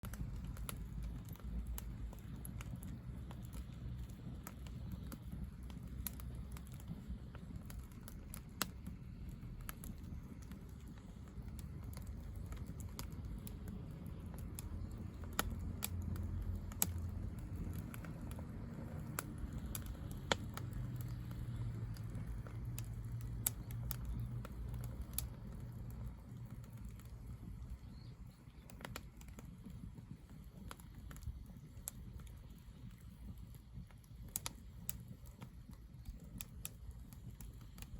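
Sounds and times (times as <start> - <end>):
firewood crackling and popping: 0.0 - 37.9
low steady rumble: 0.0 - 37.9.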